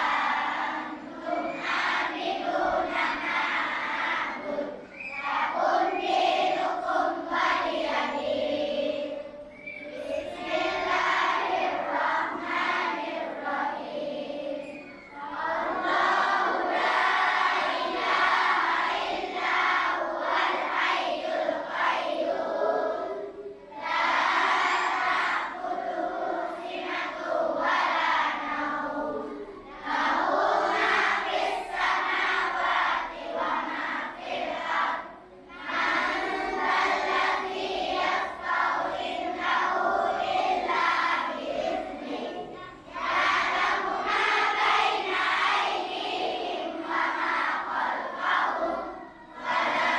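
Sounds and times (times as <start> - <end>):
children chanting in unison: 0.0 - 49.9.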